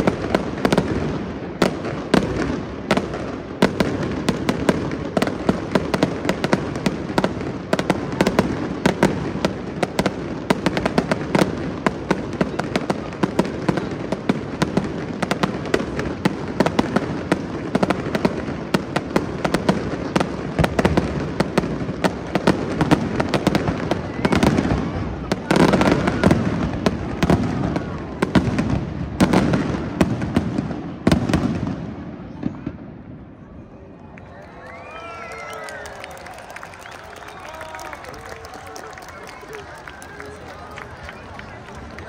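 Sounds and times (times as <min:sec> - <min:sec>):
fireworks cracking and banging: 0:00.0 - 0:33.2, 0:35.3 - 0:42.0.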